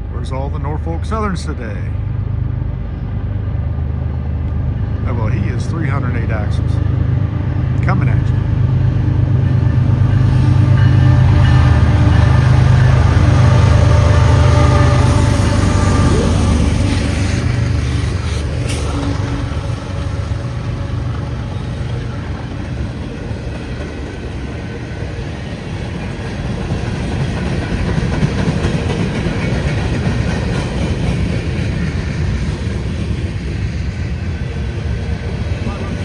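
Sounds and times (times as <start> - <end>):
freight cars rolling on rails: 0.0 - 36.0
locomotive engine drone: 0.0 - 36.0.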